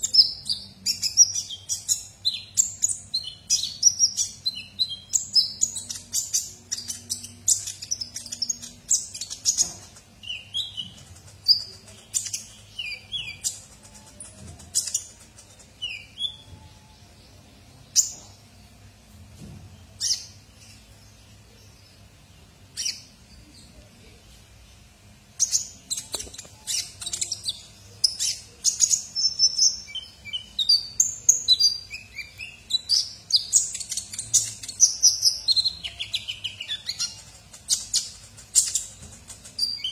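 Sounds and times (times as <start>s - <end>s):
bird chirping and trilling: 0.0s - 18.5s, 25.4s - 39.9s.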